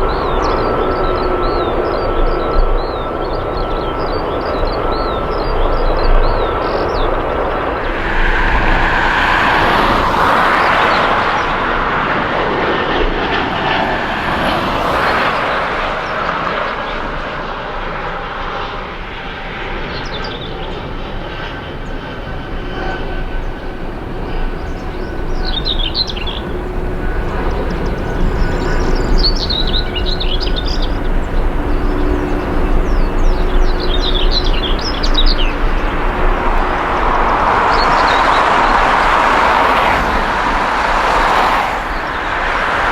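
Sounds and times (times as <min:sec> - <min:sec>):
jet airliner engines passing: 0:00.0 - 0:42.9.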